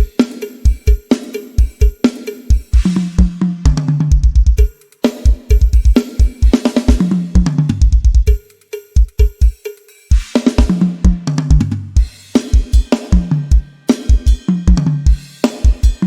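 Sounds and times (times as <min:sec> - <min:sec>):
hi-hat and cymbal crashes: 0:00.0 - 0:16.0
snare and tom fills: 0:00.0 - 0:16.0.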